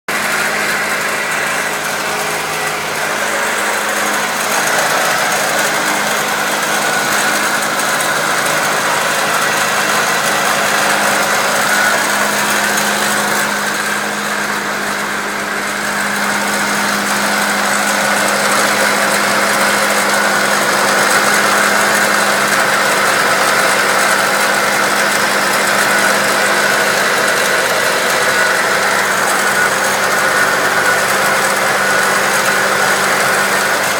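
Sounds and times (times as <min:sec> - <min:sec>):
car engine running: 0:00.0 - 0:33.9
rattle from engine bay: 0:00.1 - 0:33.9.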